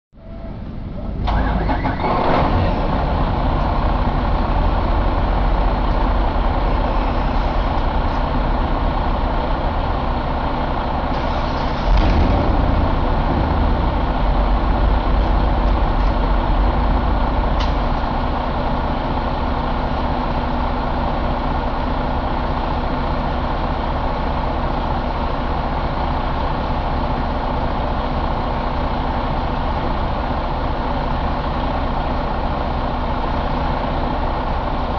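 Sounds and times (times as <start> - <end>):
diesel engine starting and running: 0.1 - 34.9.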